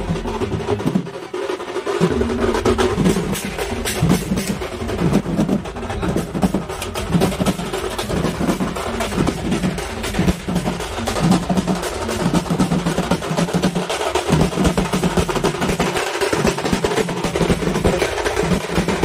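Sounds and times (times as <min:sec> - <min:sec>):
dance music with heavy drum beat: 0:00.0 - 0:19.0.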